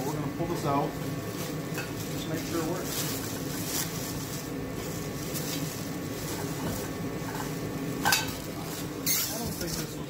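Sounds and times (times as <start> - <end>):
plastic bag rustling: 1.0 - 9.8.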